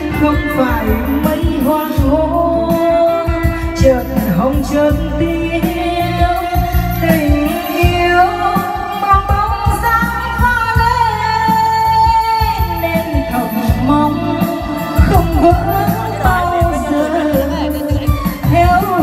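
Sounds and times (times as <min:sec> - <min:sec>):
woman singing into microphone: 0:00.0 - 0:19.0.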